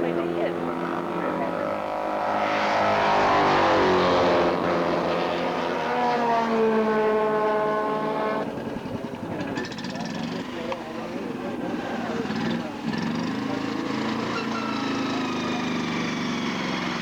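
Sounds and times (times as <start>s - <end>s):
racing motorcycle passing: 0.0s - 17.0s.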